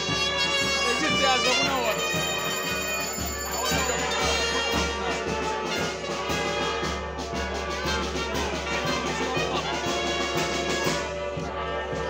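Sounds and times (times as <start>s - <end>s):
brass procession band playing: 0.0s - 12.0s.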